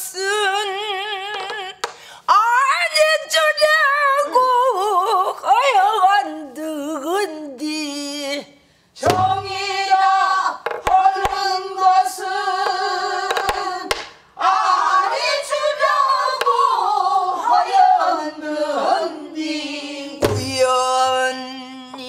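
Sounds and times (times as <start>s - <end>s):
woman singing with vibrato: 0.0s - 22.0s.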